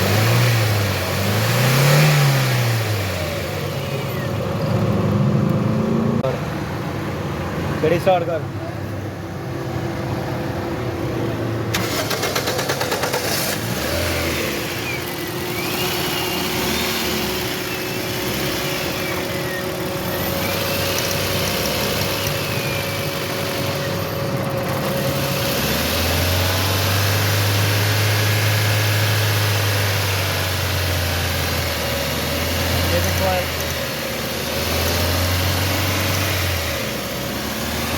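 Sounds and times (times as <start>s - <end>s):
car engine starting and running: 0.0s - 37.9s.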